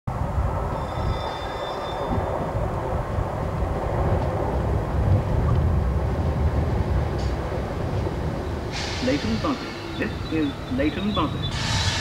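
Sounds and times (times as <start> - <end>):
electric train rumbling: 0.1 - 12.0.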